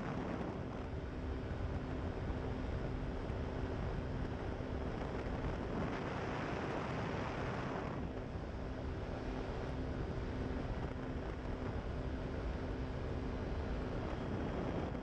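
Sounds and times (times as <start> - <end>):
light aircraft engine droning: 0.0 - 15.0
wind on microphone: 0.0 - 15.0.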